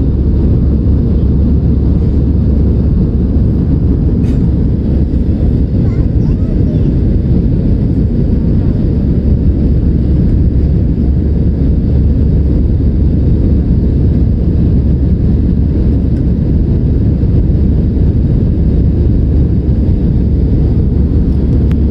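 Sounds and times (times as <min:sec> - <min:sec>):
aeroplane engines rumbling: 0:00.0 - 0:21.9
rushing air: 0:00.0 - 0:21.9.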